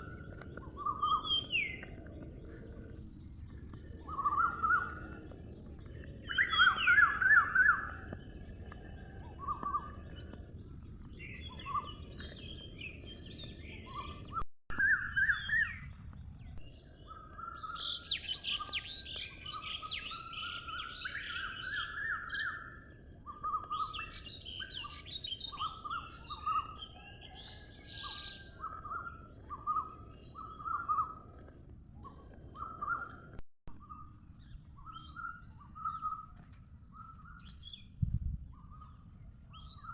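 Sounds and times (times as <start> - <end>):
small birds chirping: 0.0 - 14.4, 15.0 - 38.0.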